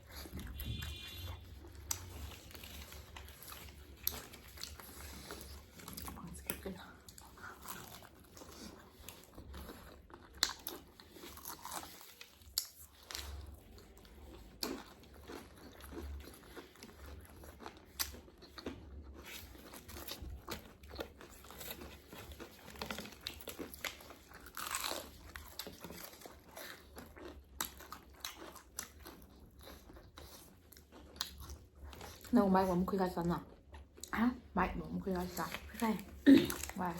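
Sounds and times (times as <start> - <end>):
crunchy bites and chewing: 0.0 - 32.3.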